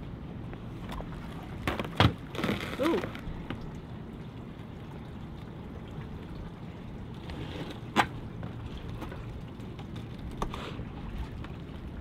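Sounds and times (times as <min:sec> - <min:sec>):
low outdoor background: 0:00.0 - 0:12.0.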